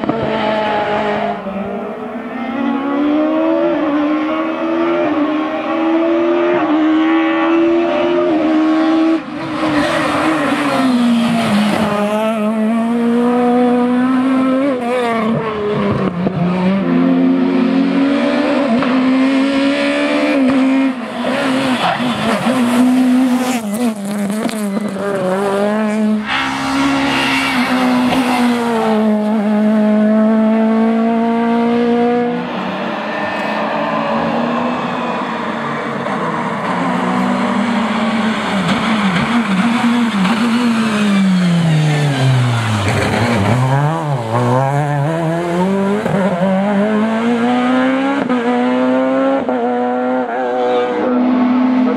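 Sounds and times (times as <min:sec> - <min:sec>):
high-revving car engine: 0:00.0 - 0:51.9.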